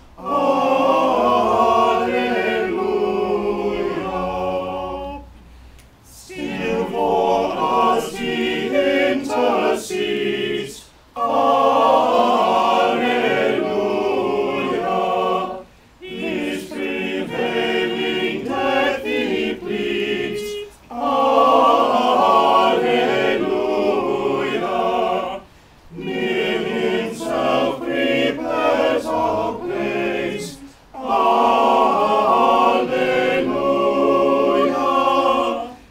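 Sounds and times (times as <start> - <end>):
small choir singing unaccompanied: 0.0 - 35.9.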